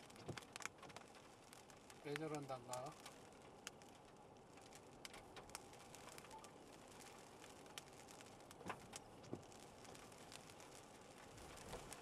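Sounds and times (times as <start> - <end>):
raindrops ticking on a car: 0.0 - 12.0.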